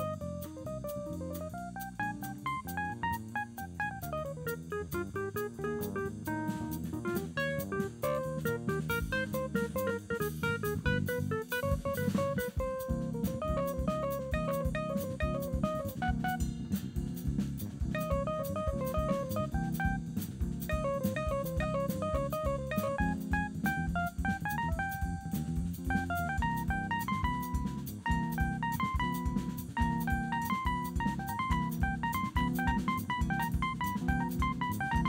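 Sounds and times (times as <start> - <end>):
jazz band playing: 0.0 - 35.0.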